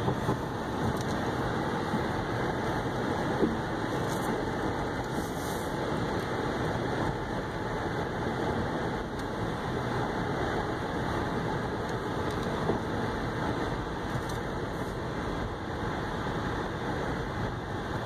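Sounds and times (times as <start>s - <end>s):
car engine running low: 0.0s - 18.0s.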